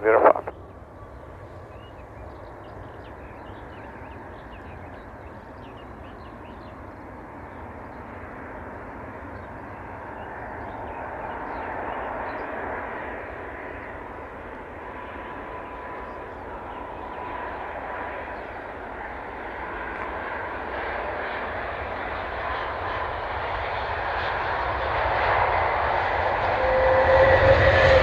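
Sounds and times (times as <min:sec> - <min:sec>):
jet engine rumble: 0:00.0 - 0:28.0
jet engine whine: 0:00.0 - 0:28.0.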